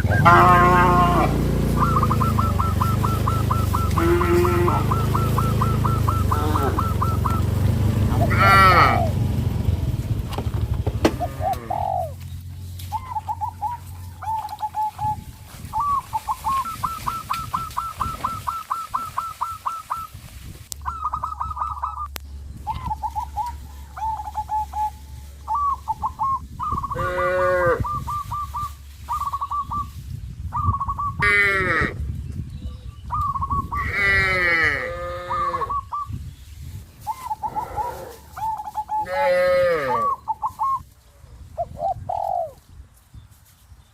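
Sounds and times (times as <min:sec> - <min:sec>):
farm animal calls falling in pitch: 0:00.0 - 0:09.2, 0:10.3 - 0:12.2, 0:12.8 - 0:20.2, 0:20.8 - 0:29.9, 0:30.7 - 0:32.0, 0:33.1 - 0:36.1, 0:37.0 - 0:40.8
small birds chirping: 0:01.4 - 0:43.9.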